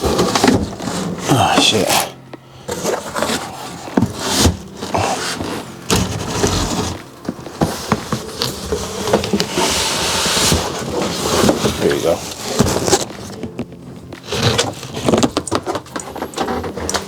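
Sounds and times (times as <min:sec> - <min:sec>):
cardboard and styrofoam scraping: 0:00.0 - 0:17.0.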